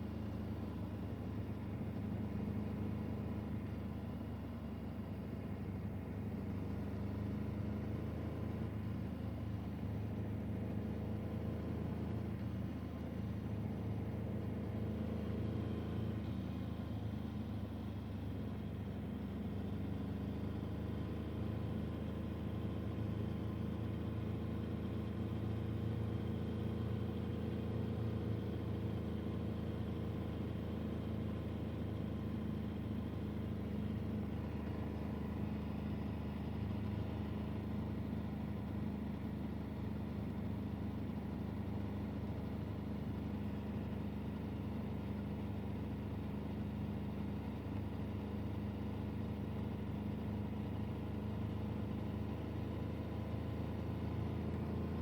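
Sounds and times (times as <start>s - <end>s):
vehicle engine running steadily: 0.0s - 55.0s.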